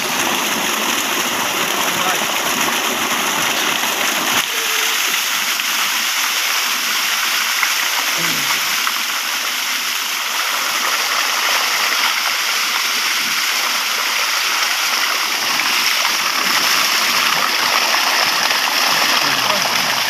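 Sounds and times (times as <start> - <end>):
water gushing from pipe: 0.0 - 20.0
water splashing: 0.0 - 20.0.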